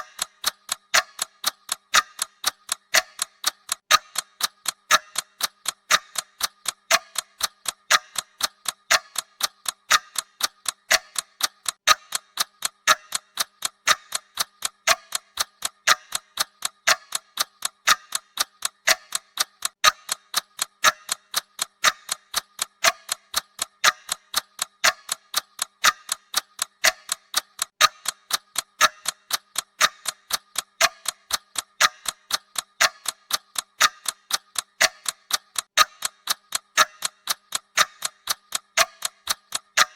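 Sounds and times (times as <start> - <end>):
timer ticking with bright ring: 0.0 - 39.9.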